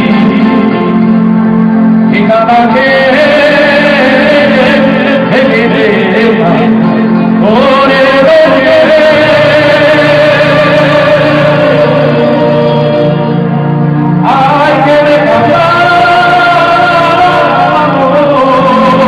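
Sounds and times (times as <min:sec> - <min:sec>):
man singing into a microphone: 0:00.0 - 0:01.2, 0:01.9 - 0:19.0
electronic keyboard: 0:00.0 - 0:19.0.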